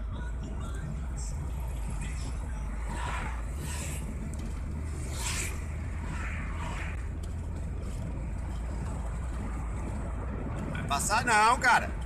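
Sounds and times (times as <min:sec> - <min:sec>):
car engine drone: 0:00.0 - 0:12.0
tyre road noise: 0:00.0 - 0:12.0.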